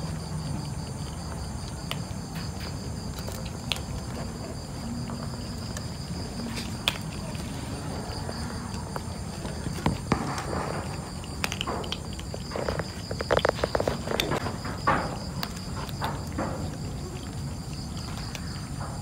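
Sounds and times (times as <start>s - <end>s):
cat crunching dry kibble: 0.0s - 18.8s
insect chirring: 0.0s - 19.0s.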